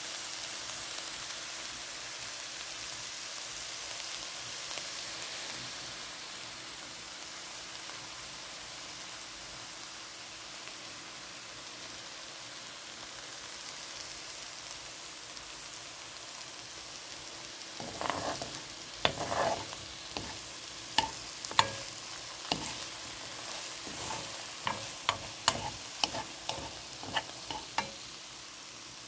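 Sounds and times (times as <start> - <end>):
mushrooms sizzling in a hot pan: 0.0 - 29.0.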